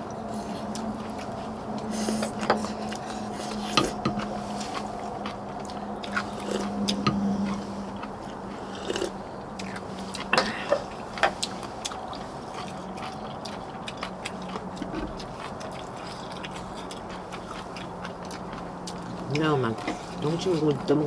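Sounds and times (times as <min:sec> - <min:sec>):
chewing: 0:00.0 - 0:21.0
steady low hum: 0:00.0 - 0:21.0.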